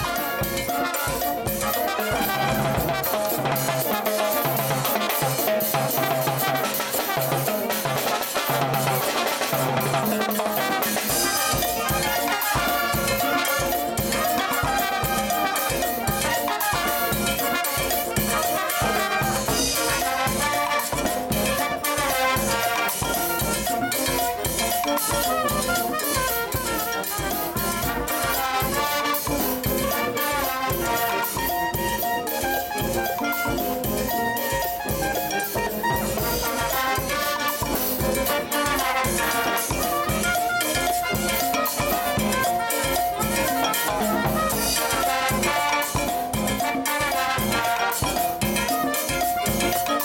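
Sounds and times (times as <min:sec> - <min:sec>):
brass band playing dance music: 0:00.0 - 0:50.0
congas and timbales: 0:00.0 - 0:50.0
drum kit: 0:00.0 - 0:50.0.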